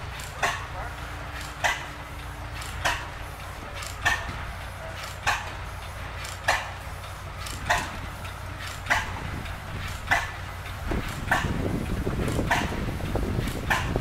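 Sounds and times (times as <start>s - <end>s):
low machinery hum: 0.0s - 14.0s
mechanical clack: 0.0s - 14.0s.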